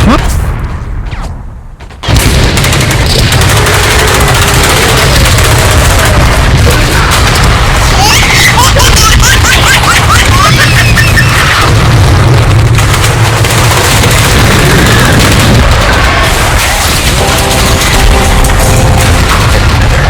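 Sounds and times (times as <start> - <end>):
booming explosion sound effects: 0.0 - 20.0
heavy low rumble: 0.0 - 20.0.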